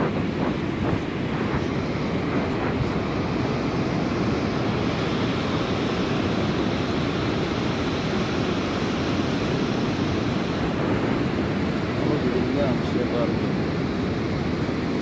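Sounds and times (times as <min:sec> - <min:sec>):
rough sea surf: 0:00.0 - 0:15.0
wind buffeting microphone: 0:00.0 - 0:15.0.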